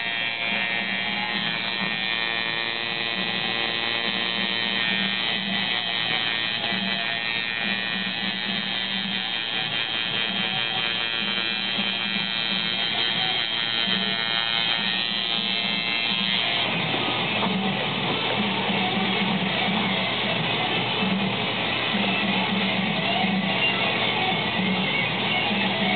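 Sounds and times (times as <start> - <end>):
tattoo machine buzzing: 0.0 - 16.8, 21.9 - 25.9.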